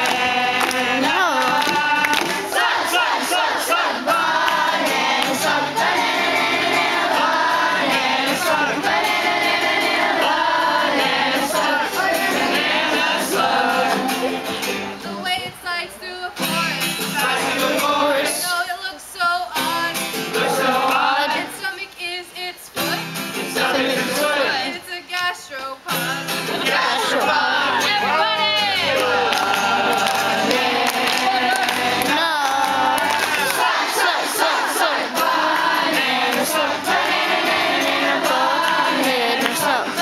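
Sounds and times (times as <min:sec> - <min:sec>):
group of voices singing: 0:00.0 - 0:19.0, 0:19.6 - 0:40.0
acoustic guitar: 0:00.0 - 0:40.0.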